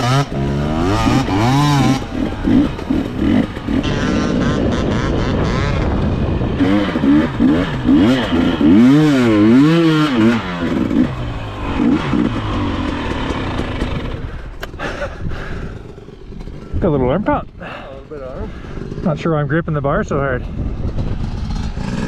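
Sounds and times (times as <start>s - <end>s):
dirt bike engine revving: 0.0s - 19.5s, 20.7s - 22.0s.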